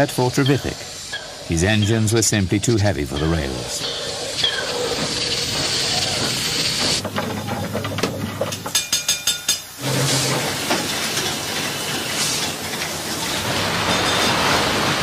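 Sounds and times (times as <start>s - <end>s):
steam engine metallic clanks: 0.0s - 15.0s
steam hissing: 0.0s - 15.0s.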